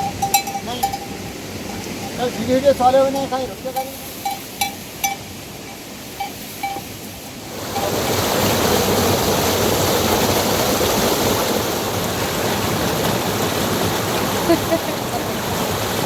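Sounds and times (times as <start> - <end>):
rushing flowing water: 0.0 - 16.0.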